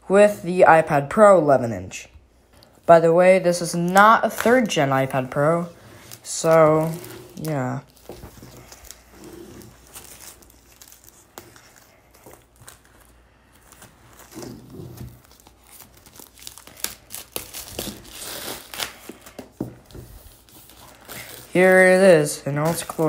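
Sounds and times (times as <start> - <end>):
plastic shrink wrap crinkling: 2.6 - 23.0.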